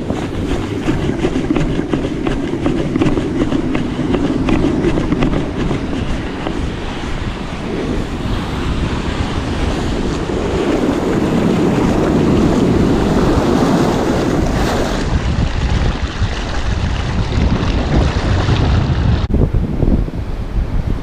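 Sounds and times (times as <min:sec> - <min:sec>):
ocean surf breaking: 0:00.0 - 0:19.3
wind buffeting microphone: 0:00.0 - 0:21.0.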